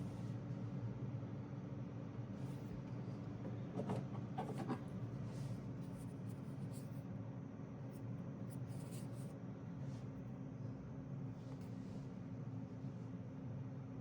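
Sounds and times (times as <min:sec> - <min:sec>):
cooling fans whirring: 0:00.0 - 0:14.0.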